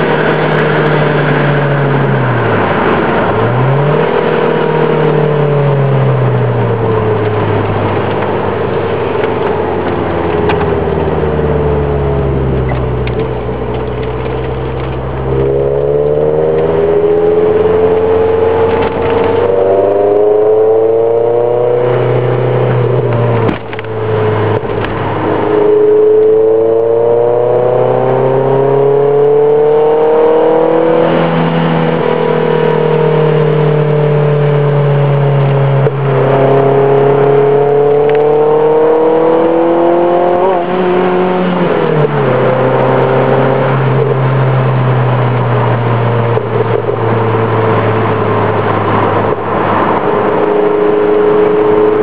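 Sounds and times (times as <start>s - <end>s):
car engine accelerating through gears: 0.0s - 52.0s.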